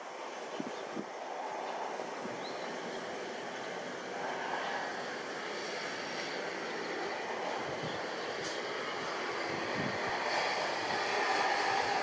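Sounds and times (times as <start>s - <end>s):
outdoor hum and hiss: 0.0s - 12.0s.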